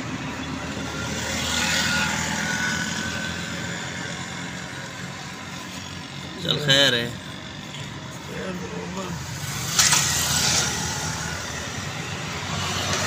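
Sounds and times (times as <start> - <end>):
broad rush of noise: 0.0 - 13.0.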